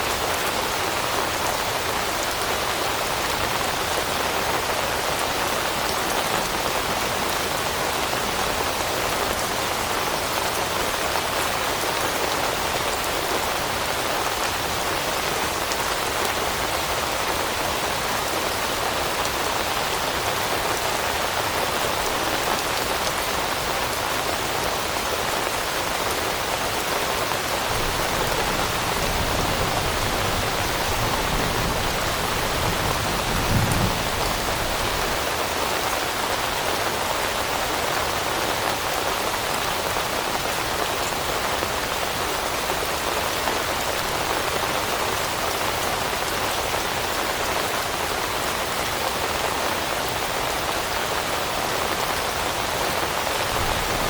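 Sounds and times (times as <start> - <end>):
rain on forest leaves: 0.0 - 54.0.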